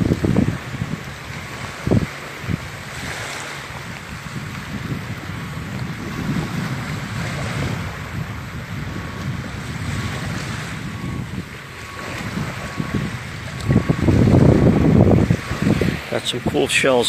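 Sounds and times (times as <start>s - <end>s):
small waves washing onto beach: 0.0s - 17.0s
wind rumbling on microphone: 0.0s - 17.0s.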